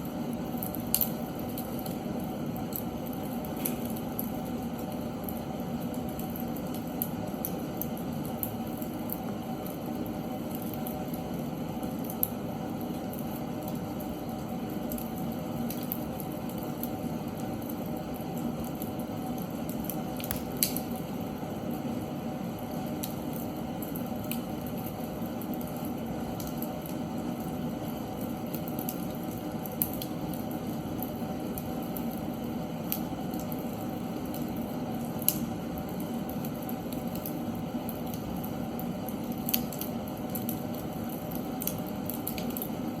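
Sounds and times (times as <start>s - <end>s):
fire crackling and popping: 0.0s - 43.0s
fire hissing and rumbling: 0.0s - 43.0s.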